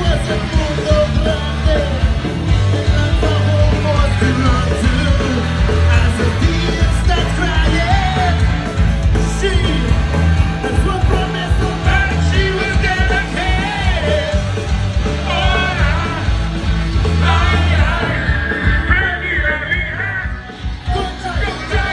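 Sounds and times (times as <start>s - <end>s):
punk rock band playing: 0.0s - 21.9s.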